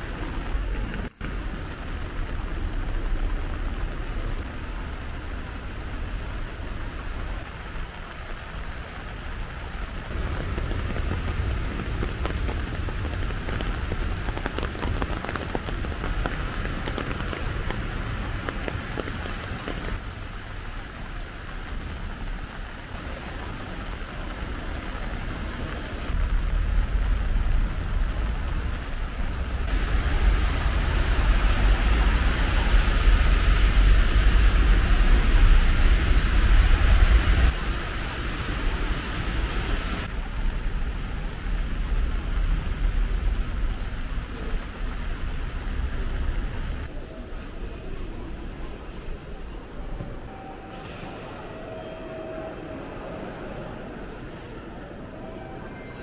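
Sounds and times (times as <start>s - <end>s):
rain on paving and stone: 0.0s - 50.2s.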